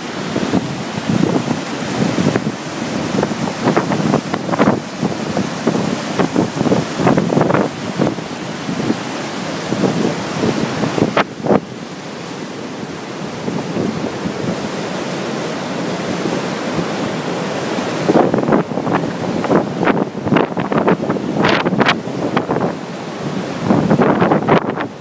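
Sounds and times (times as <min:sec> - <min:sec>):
wind buffeting microphone: 0:00.0 - 0:11.8, 0:13.2 - 0:25.0
river rushing over rocks: 0:00.0 - 0:25.0.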